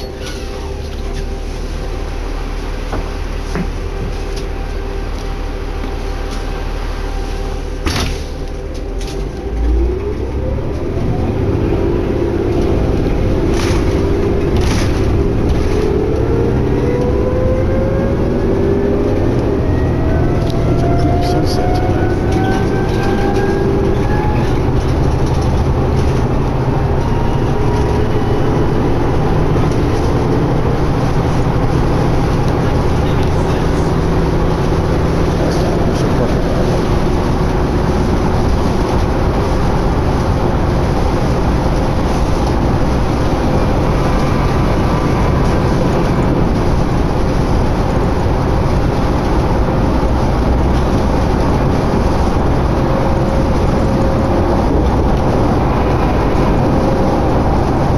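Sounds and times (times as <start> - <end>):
bus engine hum: 0.0 - 57.9
road and tyre noise: 0.0 - 57.9.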